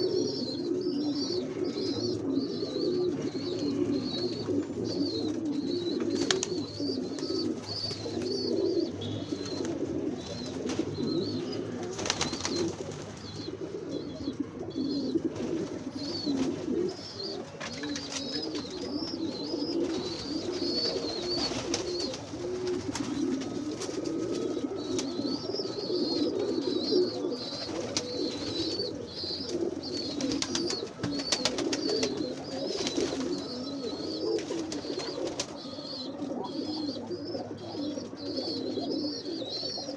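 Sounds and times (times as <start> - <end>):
doves cooing: 0.0 - 39.9
small birds twittering: 0.0 - 39.9.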